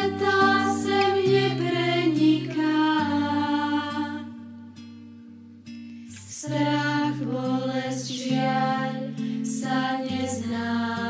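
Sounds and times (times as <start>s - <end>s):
slow gentle song: 0.0s - 11.0s.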